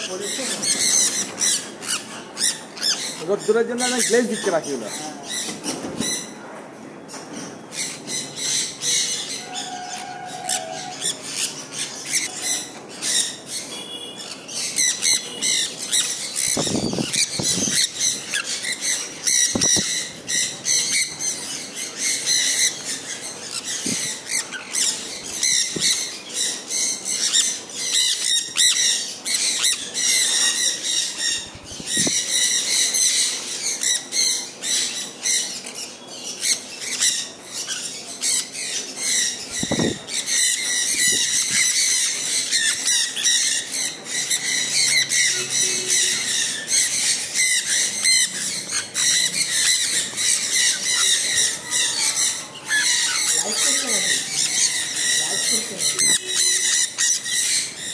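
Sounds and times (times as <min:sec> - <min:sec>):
parrots squawking: 0:00.0 - 0:06.4, 0:07.3 - 0:57.9.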